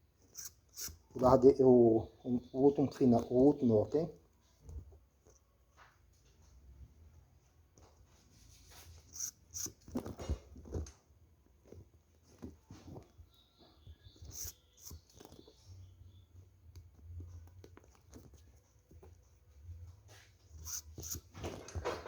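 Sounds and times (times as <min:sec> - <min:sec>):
needle and thread through seam: 0:00.0 - 0:05.6, 0:08.2 - 0:22.0.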